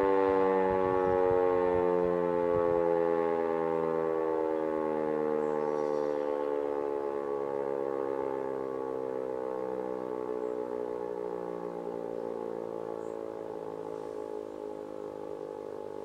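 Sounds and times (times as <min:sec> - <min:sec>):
siren winding down: 0:00.0 - 0:16.0.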